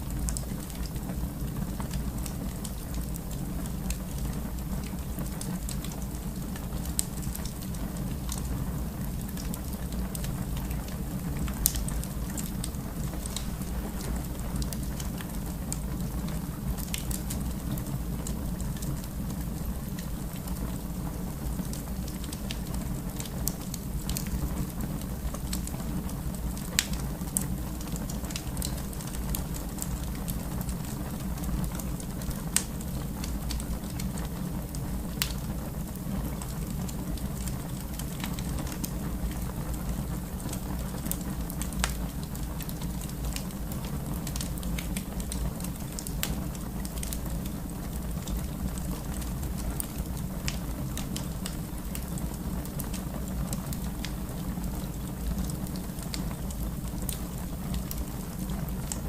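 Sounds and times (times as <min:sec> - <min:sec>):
fire crackling and popping: 0:00.0 - 0:59.0
wood fire rumbling: 0:00.0 - 0:59.0.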